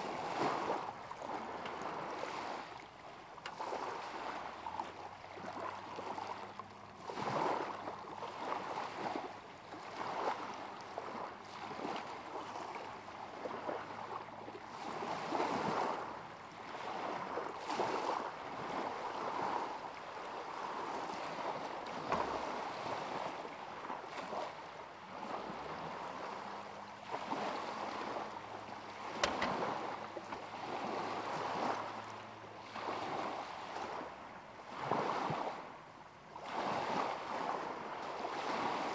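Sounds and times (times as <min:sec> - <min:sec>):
small waves lapping at shore: 0:00.0 - 0:38.9.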